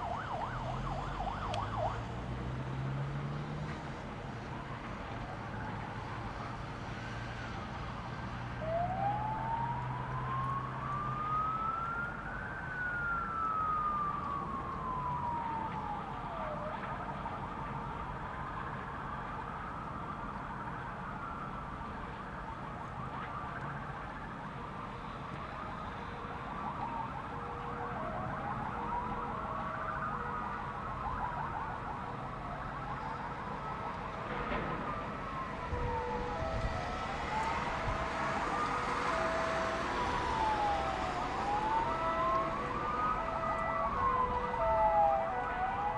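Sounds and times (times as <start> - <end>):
faster siren wail: 0.0 - 3.6, 8.4 - 21.6, 25.0 - 45.9
emergency sirens wailing: 0.0 - 45.9.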